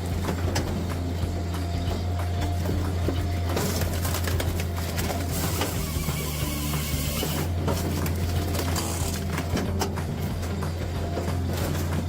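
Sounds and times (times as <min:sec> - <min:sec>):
wood cracking and knocking: 0:00.0 - 0:12.0
wood-crushing machine drone: 0:00.0 - 0:12.0.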